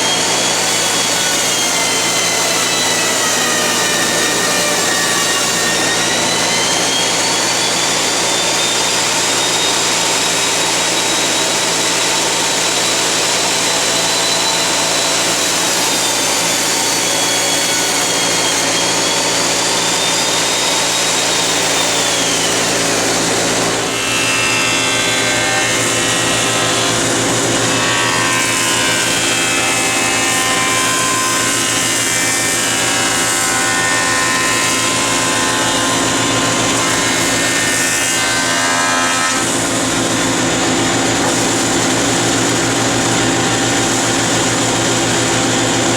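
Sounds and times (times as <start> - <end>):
bandsaw cutting wood: 0.0 - 45.9
dust collector running: 0.0 - 45.9.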